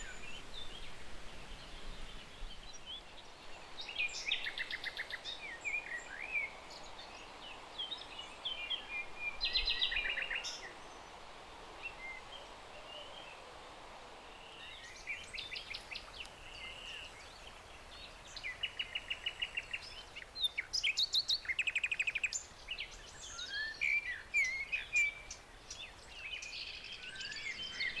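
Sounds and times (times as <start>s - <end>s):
songbirds singing: 0.0s - 13.4s, 14.2s - 28.0s
faint steady hiss: 0.0s - 28.0s.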